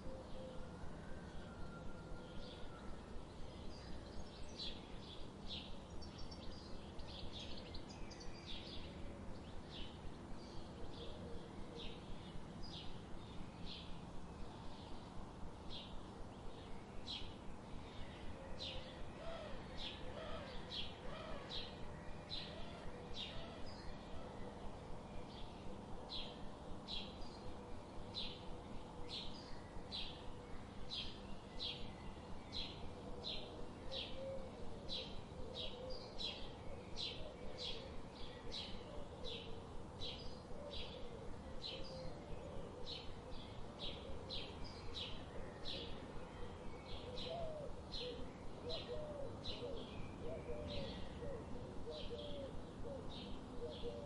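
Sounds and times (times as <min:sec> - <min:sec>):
low background hiss: 0:00.0 - 0:54.0.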